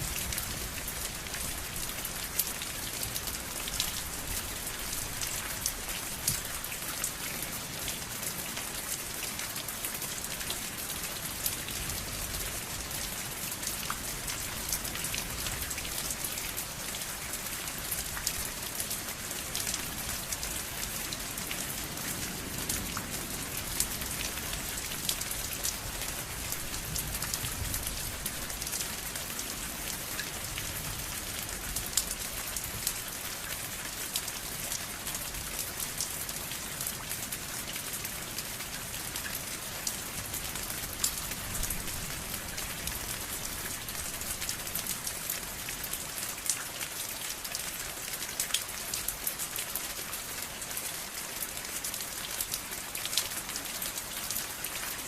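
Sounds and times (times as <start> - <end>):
raindrops pattering on a surface: 0.0 - 55.0
steady rain: 0.0 - 55.0.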